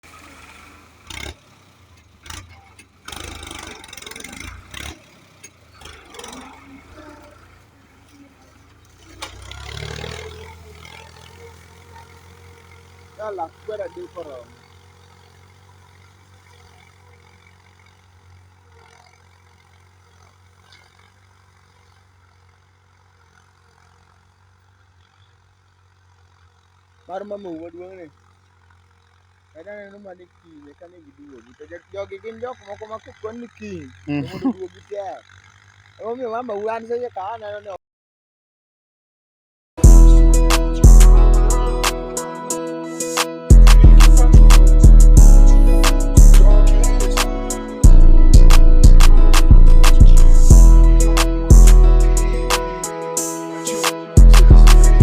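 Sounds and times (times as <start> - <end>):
tractor diesel engine running: 0.0 - 37.7, 39.8 - 55.0.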